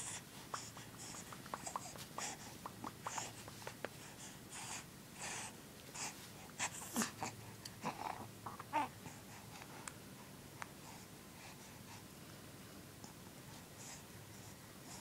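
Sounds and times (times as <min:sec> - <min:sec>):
close breathing and snuffling: 0:00.0 - 0:12.2.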